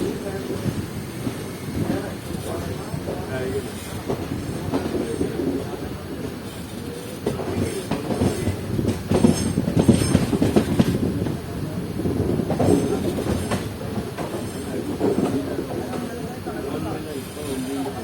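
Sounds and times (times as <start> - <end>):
train wheels clattering on rails: 0.0 - 18.0.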